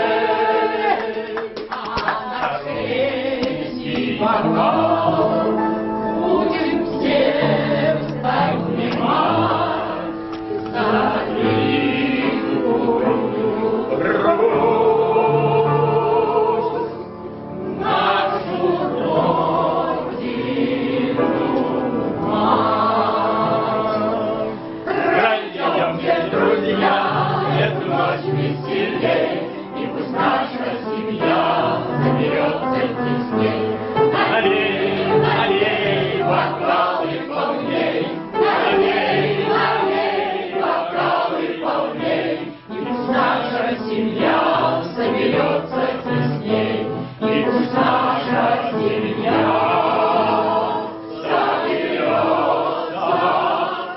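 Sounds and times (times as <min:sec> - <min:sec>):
group singing in chorus: 0:00.0 - 0:53.9.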